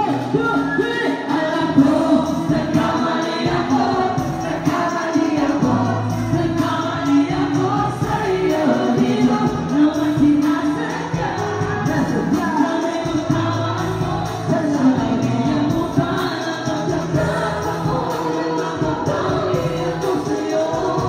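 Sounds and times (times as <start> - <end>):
music track through pa system: 0.0 - 21.0
rap vocals: 0.0 - 21.0.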